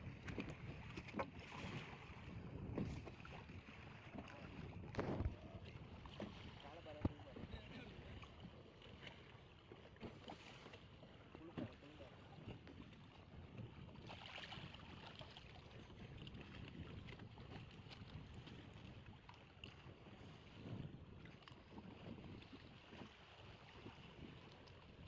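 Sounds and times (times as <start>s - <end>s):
water noise: 0.0s - 20.5s
faint wind: 0.0s - 25.0s.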